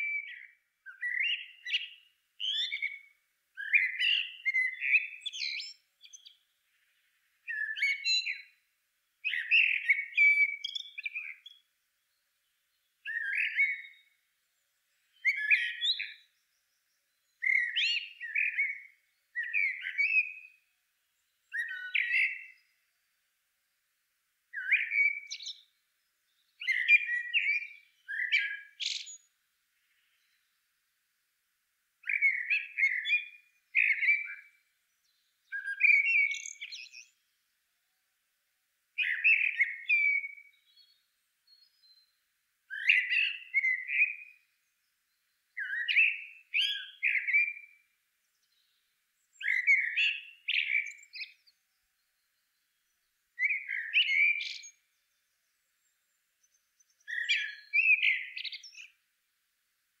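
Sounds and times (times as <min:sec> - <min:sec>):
bird chirping: 0:00.0 - 0:23.8, 0:24.5 - 0:30.9, 0:32.0 - 0:38.1, 0:39.0 - 0:59.3.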